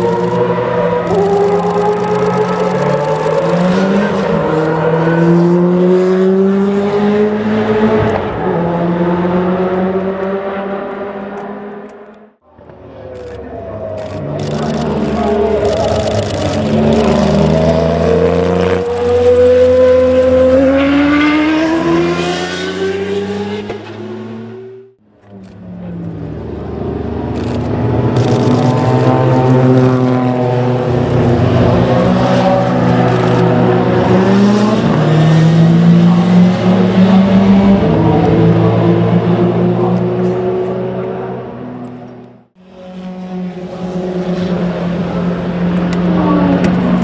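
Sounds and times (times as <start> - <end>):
race car engine at high revs: 0.0 - 12.4, 13.4 - 47.0
race car engine revving: 0.0 - 47.0.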